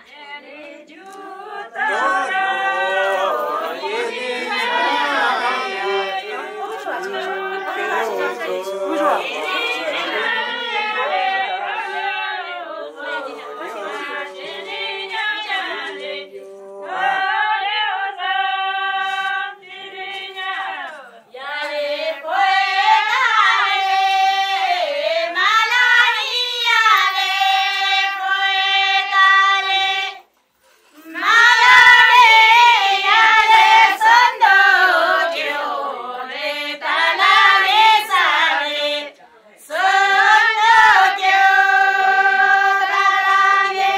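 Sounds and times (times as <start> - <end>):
women singing together: 0.0 - 43.9.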